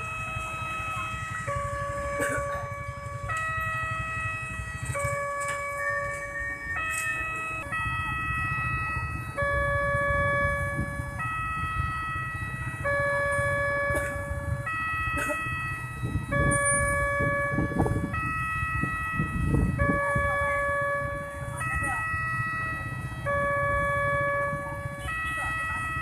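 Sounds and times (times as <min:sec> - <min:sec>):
electronic warning siren: 0:00.0 - 0:26.0
motorcycle traffic rumble: 0:00.0 - 0:26.0.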